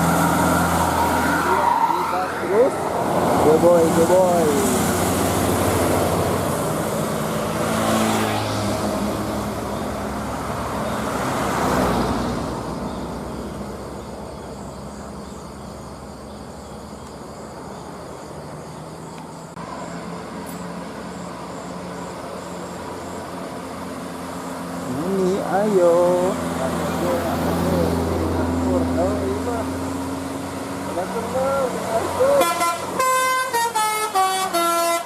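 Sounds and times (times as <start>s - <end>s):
bus passing close by: 0.0s - 35.0s
traffic rumble: 0.0s - 35.0s.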